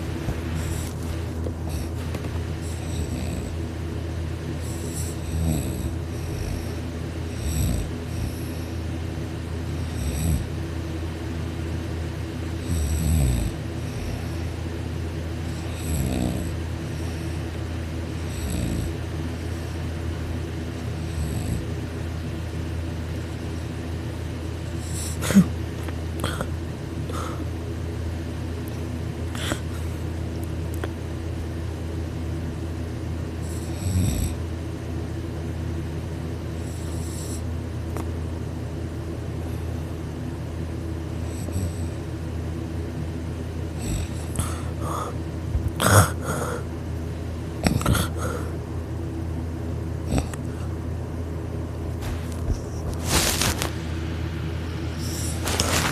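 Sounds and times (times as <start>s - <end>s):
low steady rumble: 0.0s - 55.9s.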